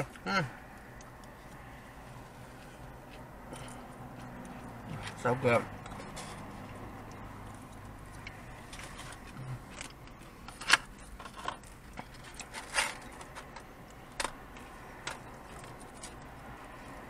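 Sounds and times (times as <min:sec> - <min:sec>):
eating and food-handling noises: 0:00.0 - 0:17.0.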